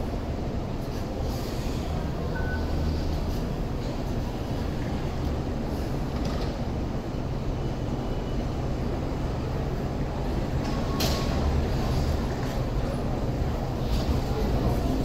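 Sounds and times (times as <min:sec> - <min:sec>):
light rail wheels rumbling: 0:00.0 - 0:15.0.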